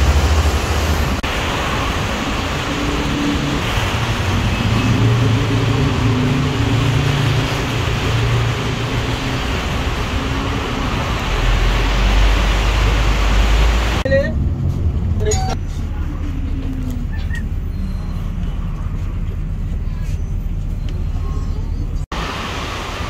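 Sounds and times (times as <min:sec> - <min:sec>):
bus engine hum: 0:00.0 - 0:23.0
traffic noise: 0:00.0 - 0:23.0.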